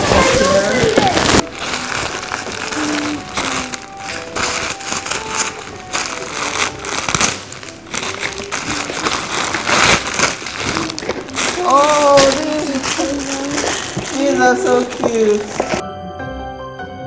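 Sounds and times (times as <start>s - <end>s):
tissue paper rustling: 0.0s - 15.8s.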